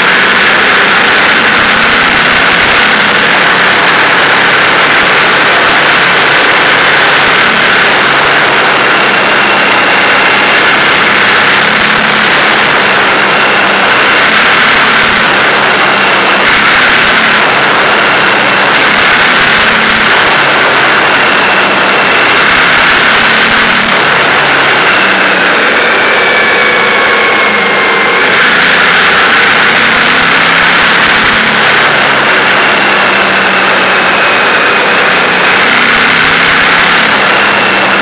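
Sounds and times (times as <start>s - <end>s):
motorcycle engine cruising: 0.0s - 38.0s
road noise: 0.0s - 38.0s.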